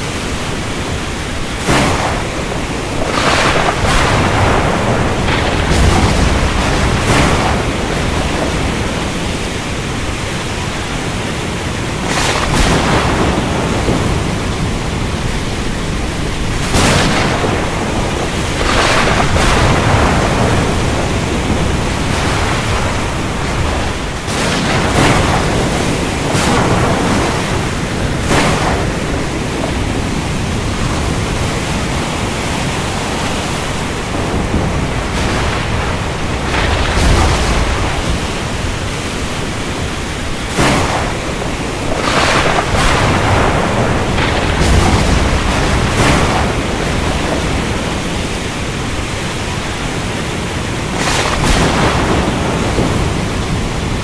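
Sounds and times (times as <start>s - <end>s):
heavy rain and wind: 0.0s - 54.0s
thunder crashes: 0.9s - 54.0s.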